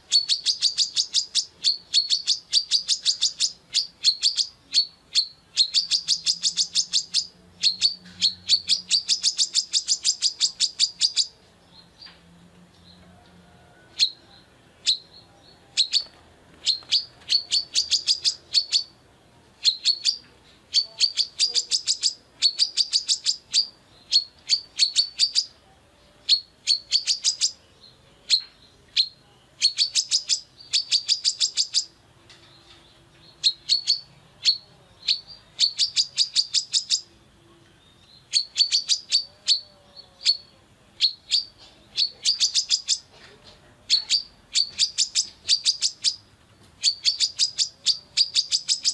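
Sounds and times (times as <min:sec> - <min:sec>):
sunbird high chipping calls: 0:00.0 - 0:12.2, 0:14.0 - 0:19.0, 0:19.6 - 0:32.0, 0:32.6 - 0:43.2, 0:43.8 - 0:48.9.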